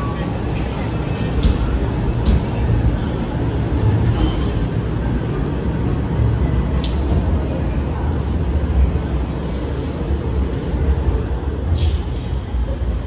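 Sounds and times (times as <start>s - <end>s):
streetcar rumbling on rails: 0.0s - 13.0s.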